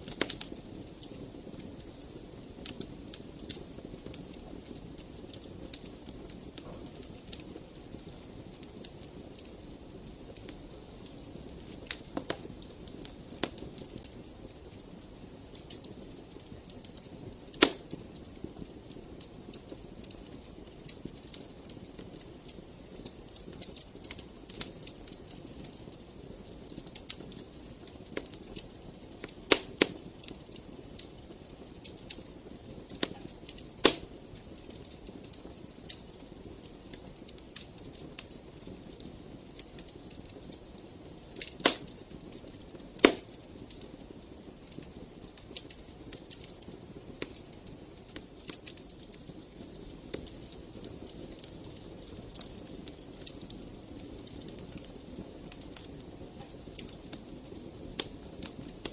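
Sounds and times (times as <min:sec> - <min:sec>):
fire crackling and popping: 0:00.0 - 0:58.9
hiss of flames: 0:00.0 - 0:58.9.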